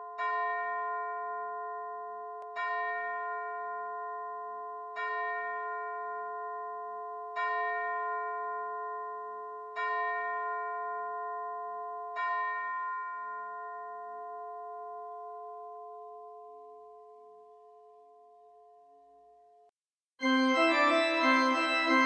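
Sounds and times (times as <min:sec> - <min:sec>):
bell-like chime: 0:00.0 - 0:22.0.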